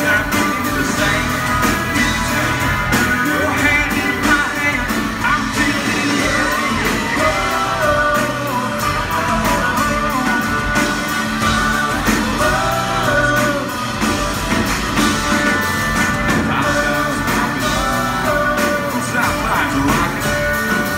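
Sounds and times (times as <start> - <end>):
man singing: 0.0 - 14.3, 16.2 - 20.9
live country band playing: 0.0 - 20.9.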